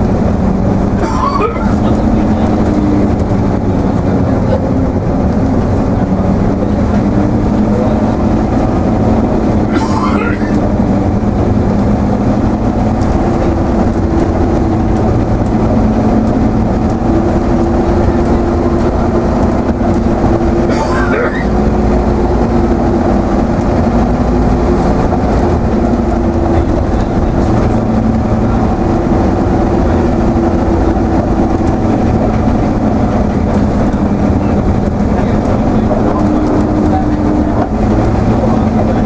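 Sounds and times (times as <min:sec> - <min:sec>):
diesel bus engine drone: 0:00.0 - 0:39.0.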